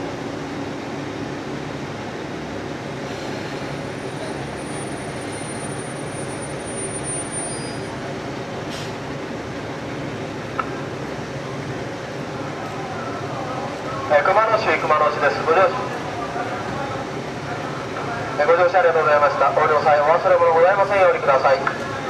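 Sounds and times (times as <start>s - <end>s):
diesel train engines running: 0.0s - 22.0s.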